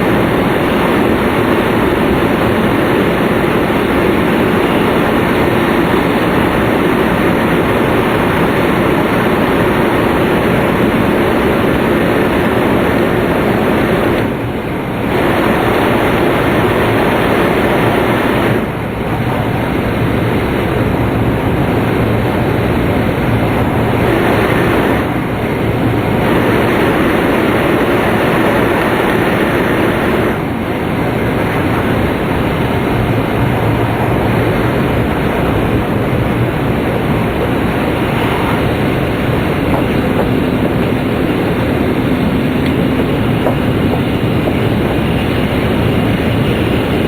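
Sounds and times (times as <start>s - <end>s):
rushing rumble of wheels and air: 0.0s - 47.0s
train running noise in cabin: 0.0s - 47.0s.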